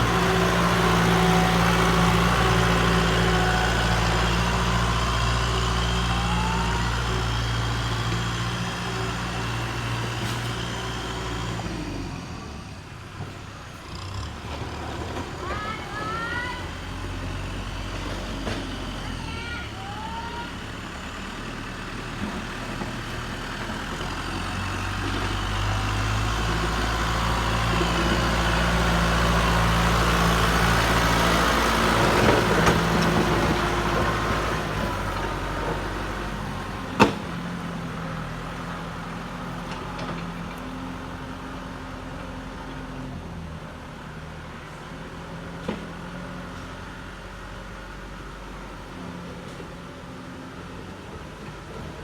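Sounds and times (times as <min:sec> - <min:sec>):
heavy vehicle engine running: 0:00.0 - 0:52.0.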